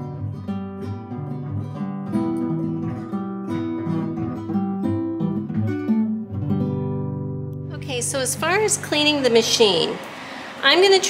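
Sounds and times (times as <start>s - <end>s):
strummed acoustic guitar chords: 0.0s - 9.4s.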